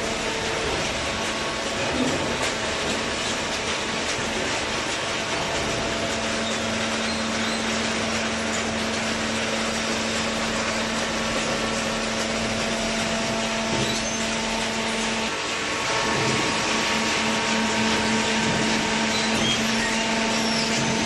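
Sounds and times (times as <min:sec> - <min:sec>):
motor and pump hum: 0:00.0 - 0:21.0.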